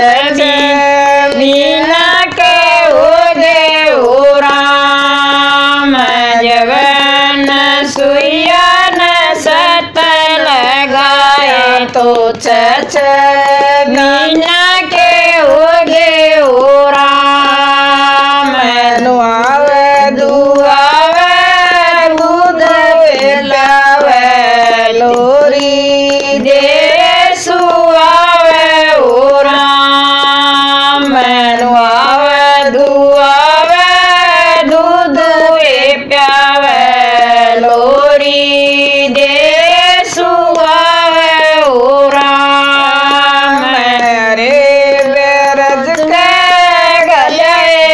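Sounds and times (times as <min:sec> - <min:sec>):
women singing devotional song: 0:00.0 - 0:47.9.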